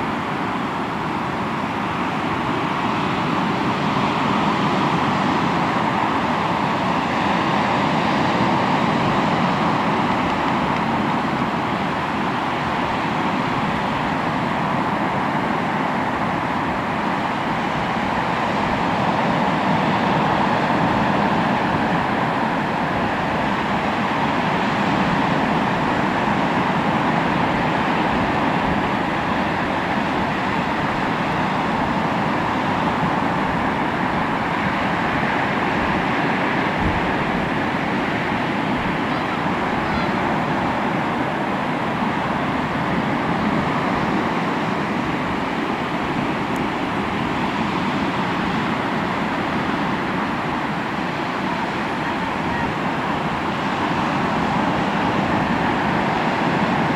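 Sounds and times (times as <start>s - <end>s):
sea waves washing onto shore: 0.0s - 56.9s.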